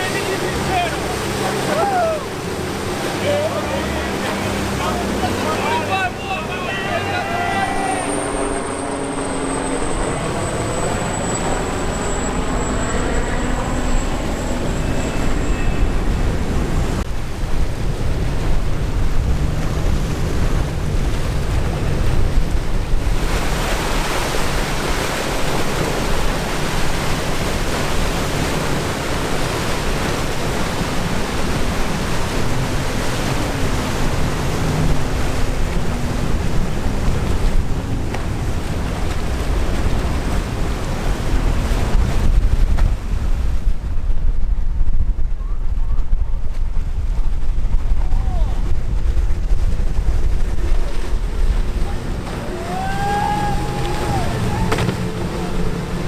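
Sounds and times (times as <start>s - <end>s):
faint boat engine: 0.0s - 56.0s
surf of rough water: 0.0s - 56.0s
wind blowing across microphone: 8.4s - 56.0s.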